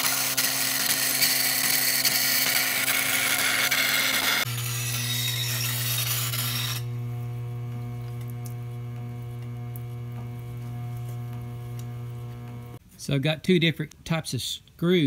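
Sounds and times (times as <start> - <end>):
blade grinding on wet stone: 0.0 - 12.8
electric motor humming: 0.0 - 12.8.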